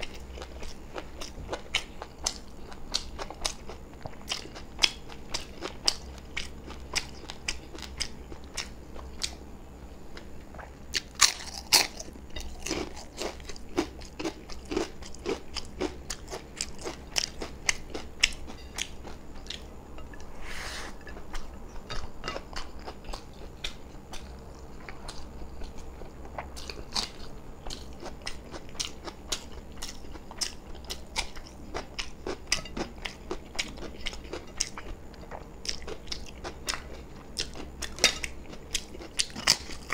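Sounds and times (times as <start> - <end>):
man chewing crunchy food: 0.0 - 39.9.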